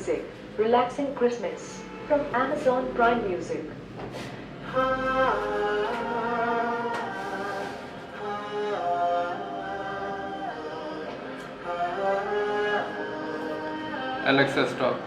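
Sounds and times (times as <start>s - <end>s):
slow choral music: 0.0s - 15.0s.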